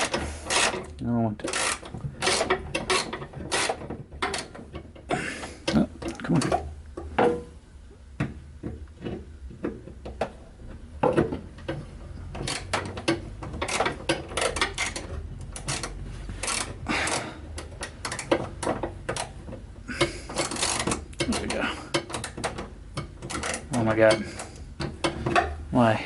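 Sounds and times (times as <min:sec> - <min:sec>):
clicks knocks and scrapes: 0:00.0 - 0:07.6, 0:08.2 - 0:25.6.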